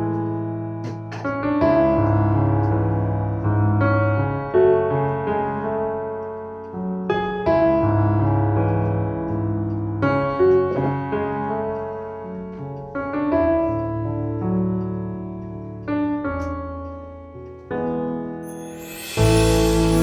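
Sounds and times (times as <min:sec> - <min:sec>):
gentle solo piano chords: 0:00.0 - 0:20.0.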